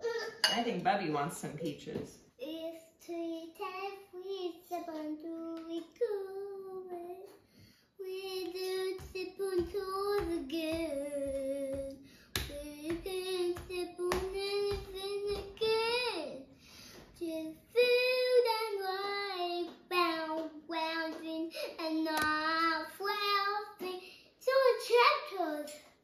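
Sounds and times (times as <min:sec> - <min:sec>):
girl singing: 0:02.4 - 0:26.0.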